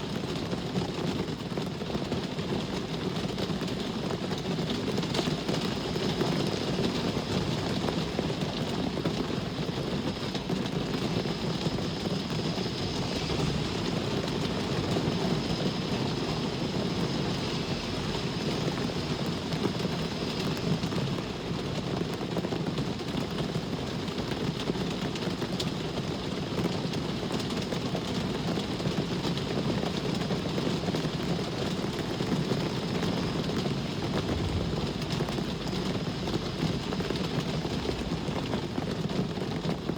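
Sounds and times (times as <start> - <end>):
steady rain falling: 0.0 - 39.9
low rumble of road traffic: 2.0 - 39.9.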